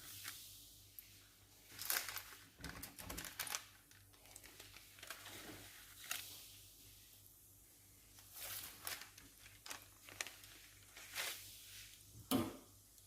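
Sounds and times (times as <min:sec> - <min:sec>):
baking paper crinkling: 0:00.0 - 0:07.2, 0:07.8 - 0:12.1.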